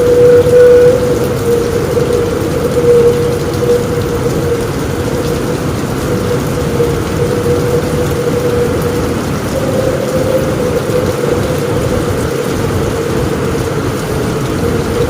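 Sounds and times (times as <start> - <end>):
heavy rain on a roof: 0.0 - 15.0
steady hum: 0.0 - 15.0
thunder rumbling: 0.0 - 15.0.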